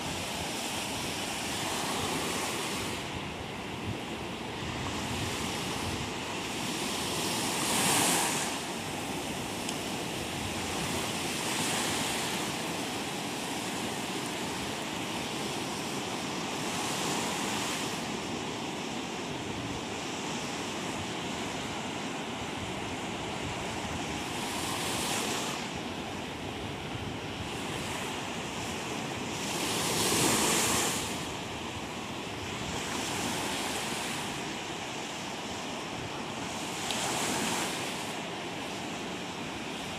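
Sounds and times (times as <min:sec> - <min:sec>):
surf breaking on shore: 0:00.0 - 0:39.9.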